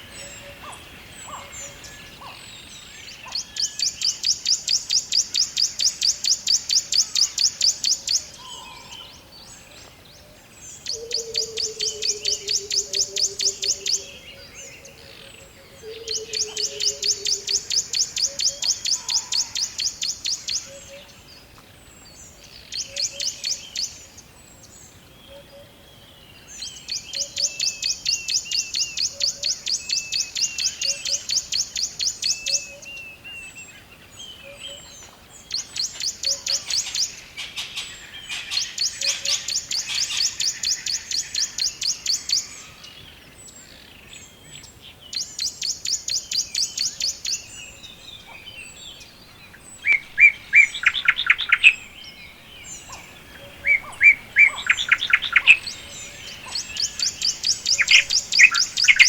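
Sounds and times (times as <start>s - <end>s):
bird chirps: 0.0s - 21.2s, 25.2s - 59.0s
birds singing rapid pulsed notes: 0.0s - 59.0s.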